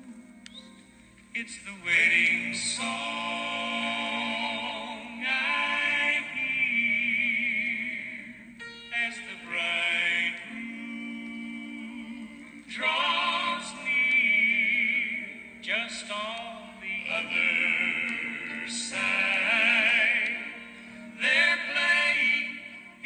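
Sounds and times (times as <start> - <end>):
sustained accompaniment: 0.0 - 23.0
singers with vibrato: 1.4 - 23.0.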